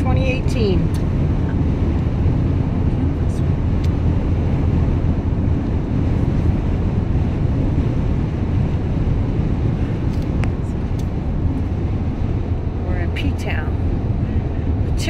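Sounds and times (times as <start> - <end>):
road and wind noise in car: 0.0 - 15.0.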